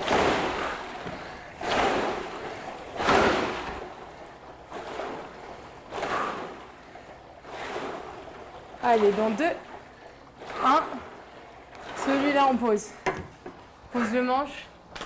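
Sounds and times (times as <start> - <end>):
water swishing in rowing machine: 0.0 - 15.0.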